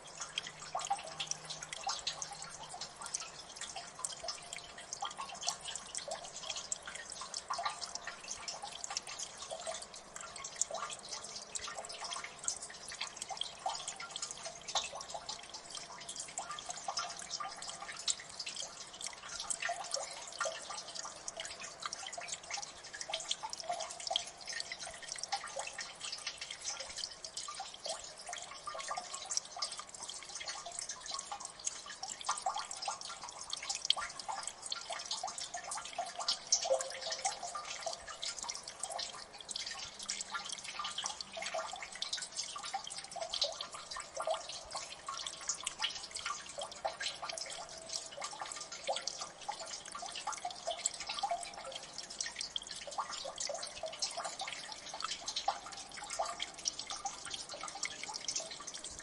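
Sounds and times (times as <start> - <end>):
water drips plinking: 0.0 - 59.0.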